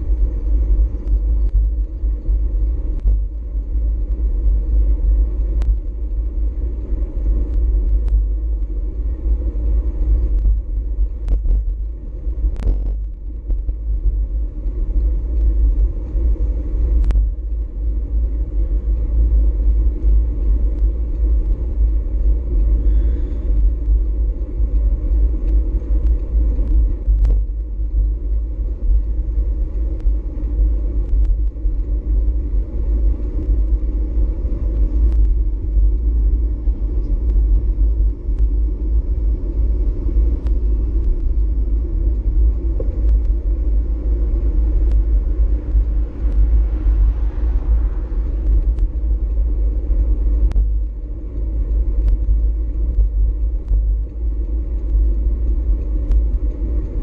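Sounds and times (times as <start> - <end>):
bicycle road rumble: 0.0 - 57.0
wind buffeting microphone: 0.0 - 57.0.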